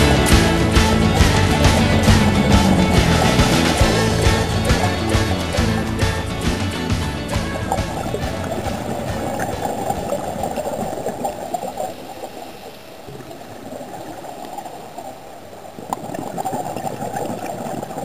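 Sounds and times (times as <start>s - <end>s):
underwater gurgling and bubbling: 0.0s - 18.0s.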